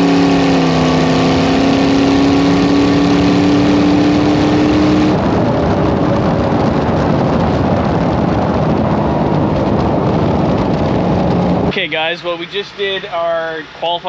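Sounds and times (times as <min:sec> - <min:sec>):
engine running hard: 0:00.0 - 0:14.0
rough rushing noise: 0:00.0 - 0:14.0.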